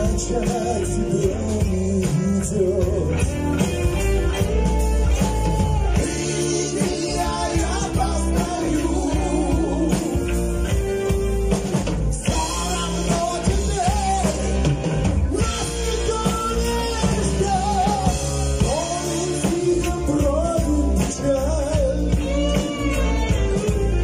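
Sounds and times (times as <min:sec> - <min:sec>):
man singing: 0:00.0 - 0:03.7, 0:05.6 - 0:11.0, 0:12.1 - 0:24.0
rock band playing: 0:00.0 - 0:24.0.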